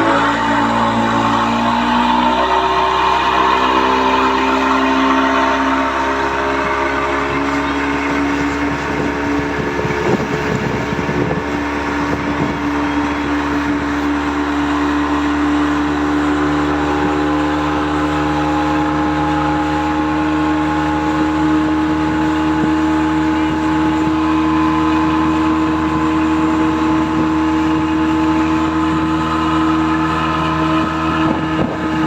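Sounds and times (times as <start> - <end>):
motorboat engine running: 0.0 - 32.0
wind and water rushing: 0.0 - 32.0.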